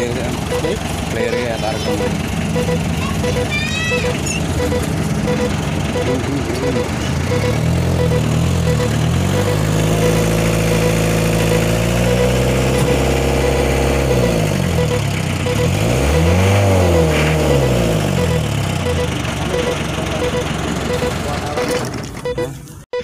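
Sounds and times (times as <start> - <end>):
engine running and revving: 0.0 - 22.7.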